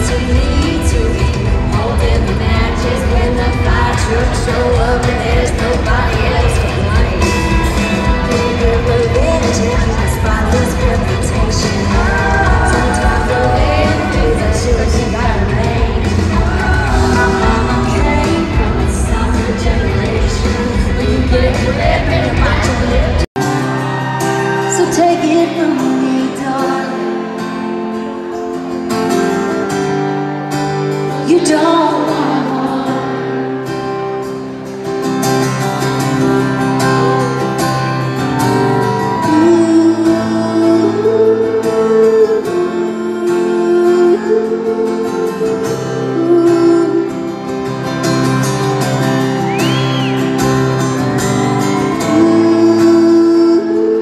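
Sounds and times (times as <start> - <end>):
woman singing: 0.0 - 23.9, 24.5 - 27.5, 31.0 - 34.0, 36.1 - 48.4, 49.6 - 54.0
acoustic guitar: 0.0 - 54.0.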